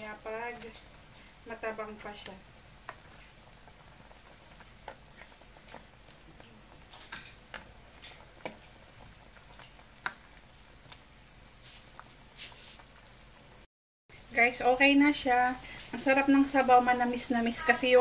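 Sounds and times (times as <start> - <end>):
soup bubbling: 0.0 - 18.0.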